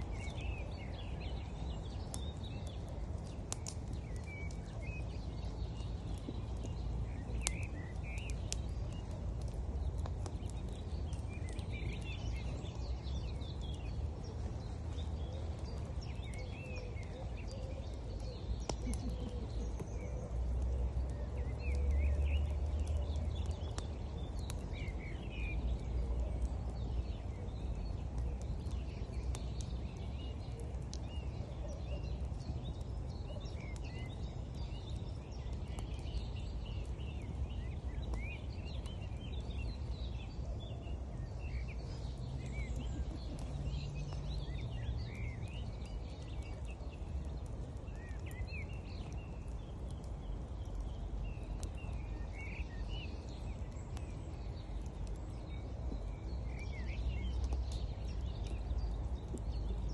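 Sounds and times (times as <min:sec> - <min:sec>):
campfire crackles: 0:00.0 - 0:59.9
small birds chirping: 0:00.0 - 0:59.9.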